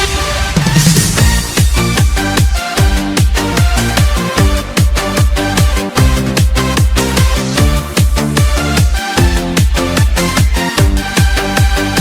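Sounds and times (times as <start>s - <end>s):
electronic dance music: 0.0s - 12.0s
heavy kick drum beat: 0.0s - 12.0s.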